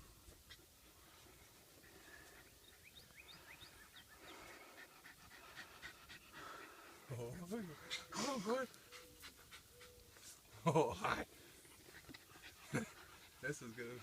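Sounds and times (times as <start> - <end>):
dog panting: 0.5 - 10.5, 11.4 - 14.0.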